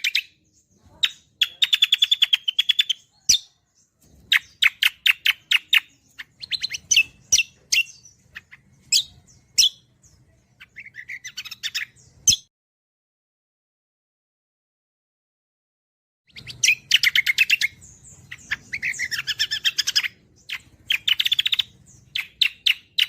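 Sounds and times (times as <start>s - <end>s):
songbird chirping and trilling: 0.0s - 12.5s, 16.2s - 23.0s.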